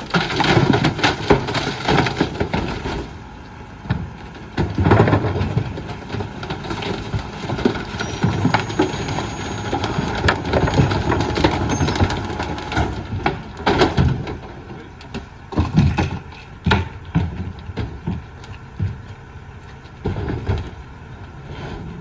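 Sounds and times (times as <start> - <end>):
diesel truck engine running: 0.0 - 22.0
packer crushing trash: 0.0 - 22.0.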